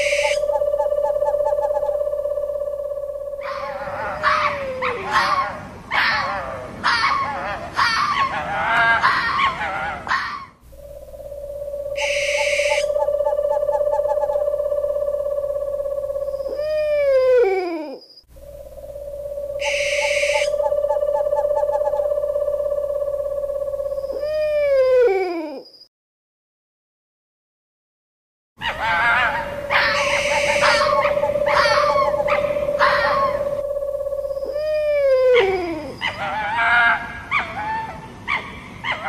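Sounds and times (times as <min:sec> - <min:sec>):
owl hooting: 0:00.0 - 0:25.6, 0:28.6 - 0:38.0.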